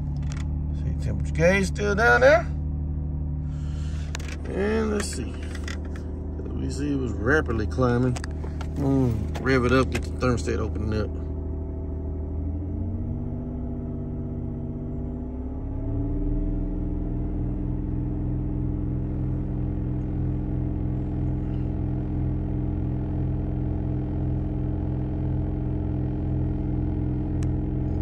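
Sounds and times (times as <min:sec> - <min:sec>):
car engine running at raised revs: 0:00.0 - 0:28.0.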